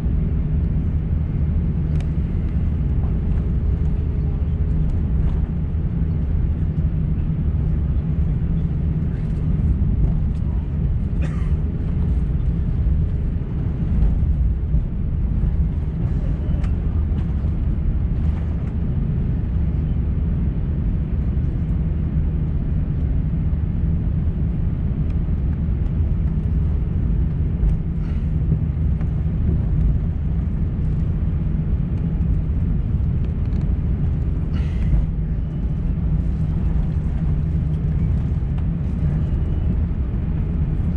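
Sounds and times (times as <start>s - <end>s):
aircraft engine rumble: 0.0s - 40.9s.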